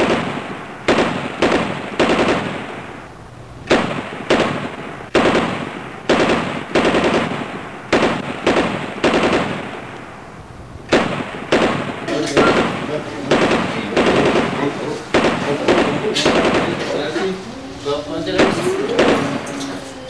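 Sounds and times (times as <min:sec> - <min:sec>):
loud sharp bangs: 0:00.0 - 0:20.0.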